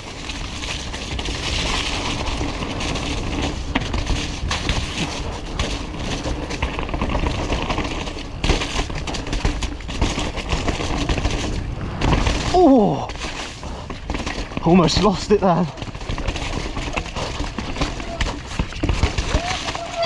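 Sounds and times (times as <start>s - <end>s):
bike rattling over rocks: 0.0s - 20.0s
tyres running through mud: 0.0s - 20.0s.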